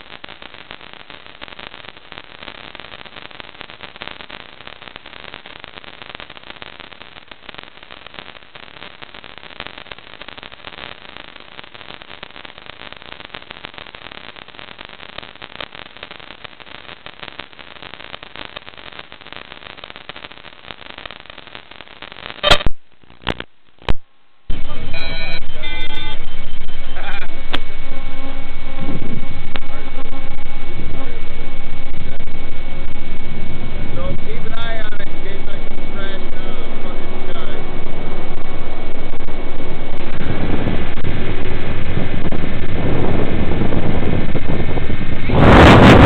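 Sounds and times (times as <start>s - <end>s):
sharp loud crackles: 0.0s - 46.0s
video static hiss: 0.0s - 46.0s.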